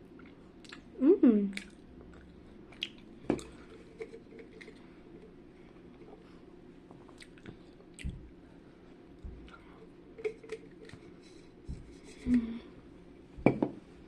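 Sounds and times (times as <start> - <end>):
soft wet chewing: 0.0 - 12.9.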